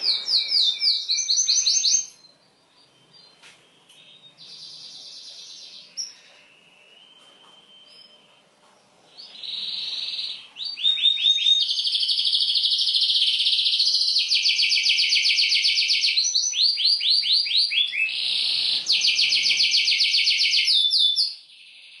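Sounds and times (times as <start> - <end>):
canary singing trills: 0.0 - 8.4, 9.1 - 22.0.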